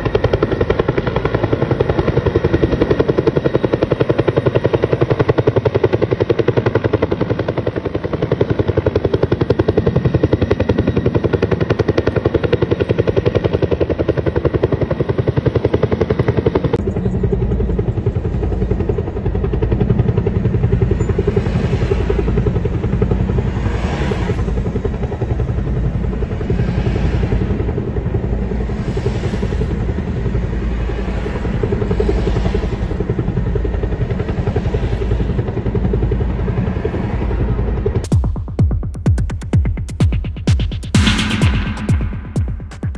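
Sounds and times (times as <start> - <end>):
helicopter rotor blades beating: 0.0 - 42.9.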